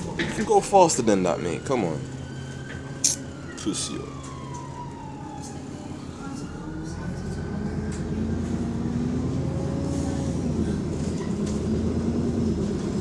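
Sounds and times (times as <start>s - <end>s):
bus diesel engine droning: 0.0s - 13.0s.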